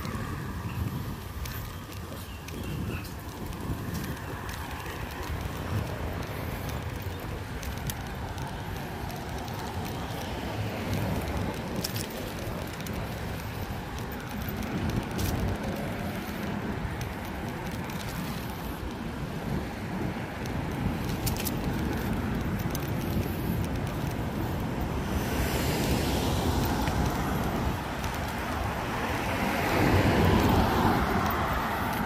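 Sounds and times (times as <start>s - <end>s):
motor traffic: 0.0s - 32.0s
wind and road rumble: 0.0s - 32.0s.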